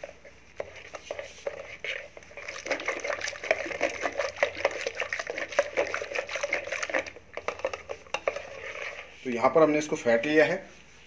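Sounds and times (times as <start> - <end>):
hand churner sloshing in steel pot: 0.0 - 9.8.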